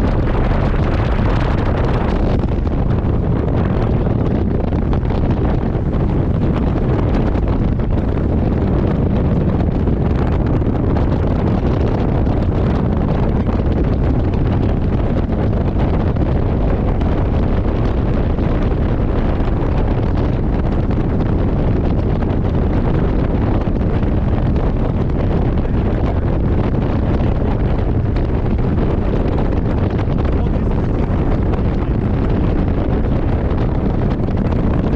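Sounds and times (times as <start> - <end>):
boat rushing through water: 0.0 - 34.9
wind buffeting microphone: 0.0 - 34.9.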